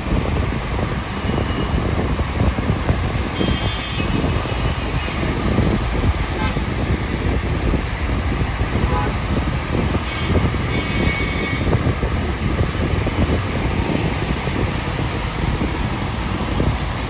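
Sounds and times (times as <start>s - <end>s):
bus engine and road rumble: 0.0s - 17.0s
traffic: 0.0s - 17.0s.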